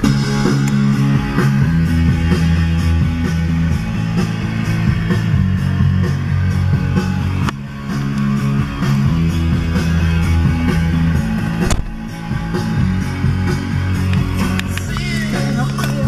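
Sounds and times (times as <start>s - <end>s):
rock music on car stereo: 0.0s - 16.0s.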